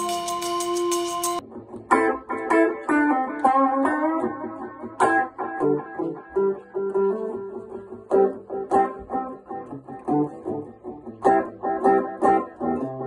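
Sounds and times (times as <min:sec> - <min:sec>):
electric guitar with delay: 0:00.0 - 0:13.0.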